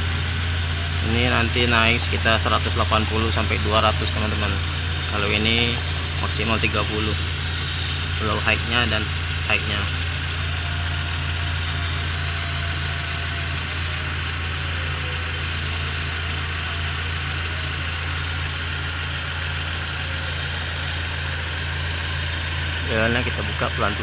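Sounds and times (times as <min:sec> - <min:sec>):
air conditioning compressor hiss: 0:00.0 - 0:24.0
car engine idling: 0:00.0 - 0:24.0.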